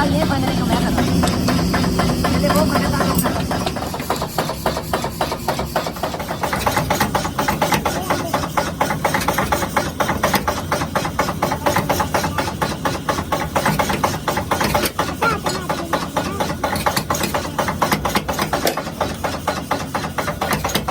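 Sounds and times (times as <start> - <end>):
motor humming: 0.0 - 20.9
power hammer striking steel: 0.2 - 20.9.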